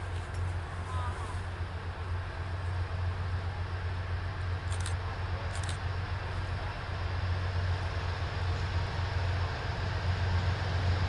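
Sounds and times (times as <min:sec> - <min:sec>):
diesel locomotives droning: 0:00.0 - 0:11.0.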